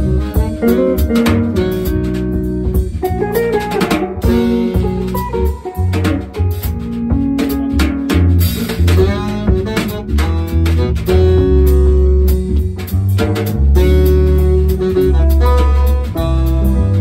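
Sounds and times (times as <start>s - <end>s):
drum kit: 0.0s - 17.0s
electric bass line: 0.0s - 17.0s
electric guitar: 0.0s - 17.0s.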